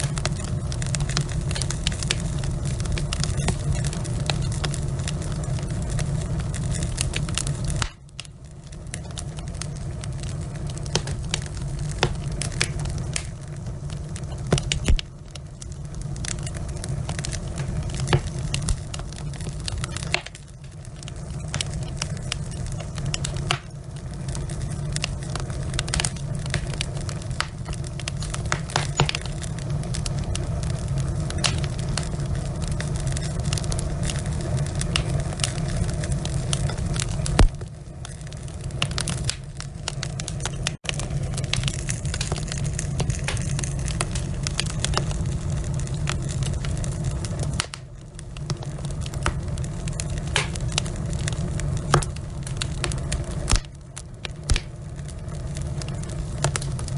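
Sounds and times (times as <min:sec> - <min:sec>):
logs crackling in fireplace: 0:00.0 - 0:56.9.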